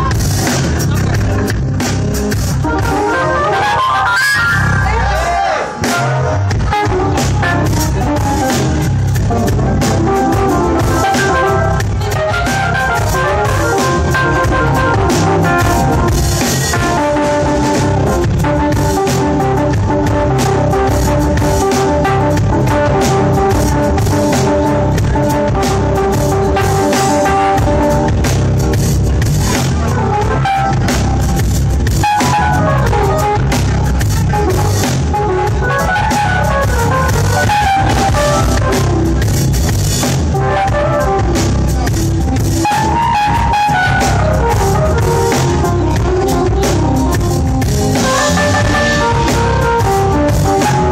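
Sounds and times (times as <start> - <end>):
bass guitar: 0.0 - 50.9
drum kit: 0.0 - 50.9
keyboard with organ sound: 0.0 - 50.9.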